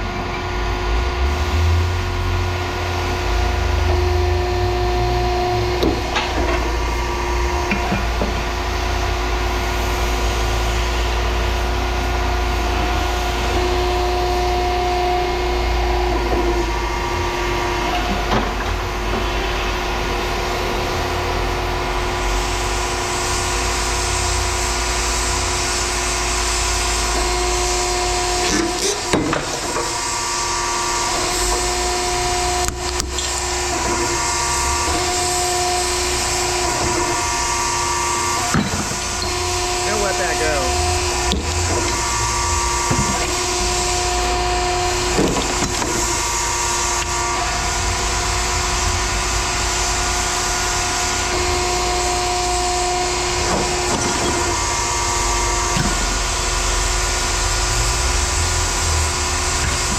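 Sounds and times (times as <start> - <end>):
heavy engine rumbling: 0.0 - 59.9.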